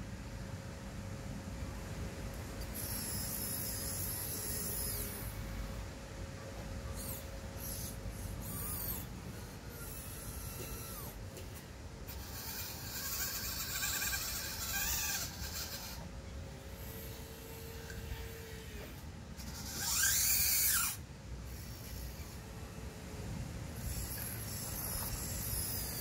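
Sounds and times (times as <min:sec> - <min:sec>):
small electric motors whirring: 0:02.4 - 0:05.8, 0:06.8 - 0:23.0, 0:23.8 - 0:26.0.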